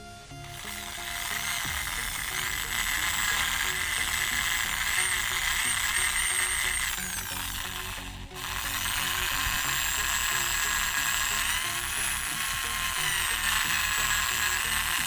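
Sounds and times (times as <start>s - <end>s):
electric drill grinding on metal: 0.0s - 15.0s.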